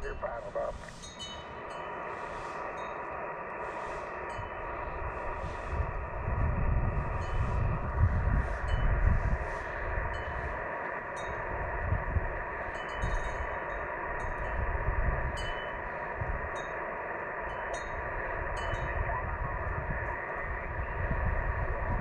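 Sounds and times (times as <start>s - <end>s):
low gusty rumble: 0.0s - 22.0s
radio static hiss: 0.0s - 22.0s.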